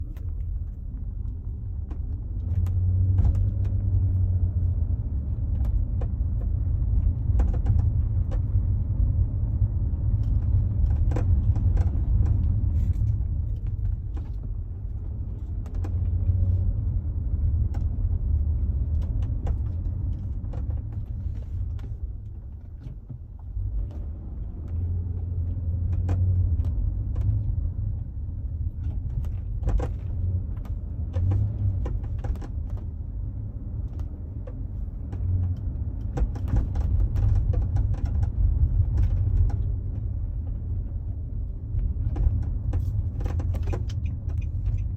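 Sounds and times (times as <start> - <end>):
car driving low rumble: 0.0 - 44.9.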